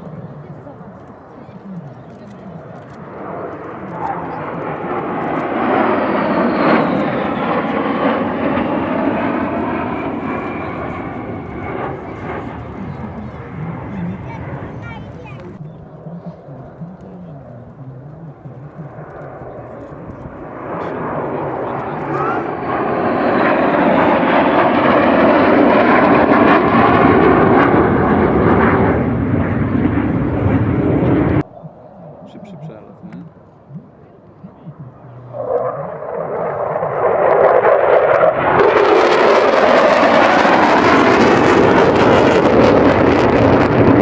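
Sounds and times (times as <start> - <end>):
jet engines passing overhead: 0.0 - 44.0.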